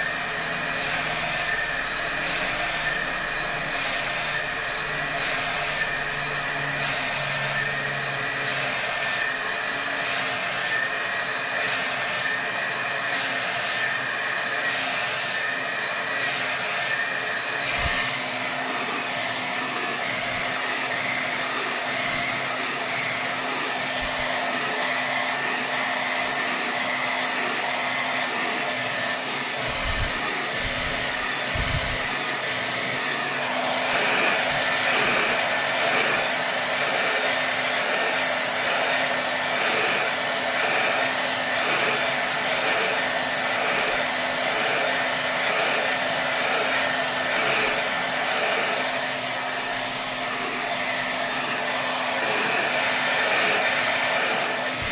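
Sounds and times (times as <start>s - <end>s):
hair dryer running: 0.0s - 54.9s.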